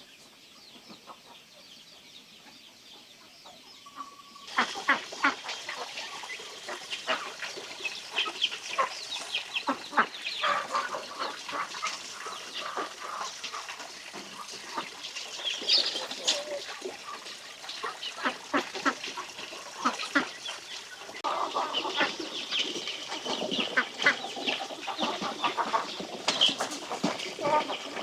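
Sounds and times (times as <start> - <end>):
poultry clucking and calling: 0.2 - 28.0.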